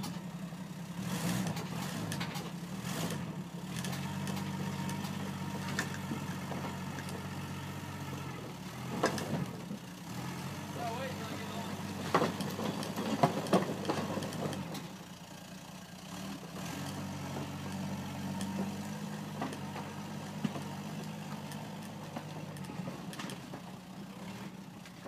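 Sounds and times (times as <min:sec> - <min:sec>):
snowcat engine running: 0:00.0 - 0:25.0.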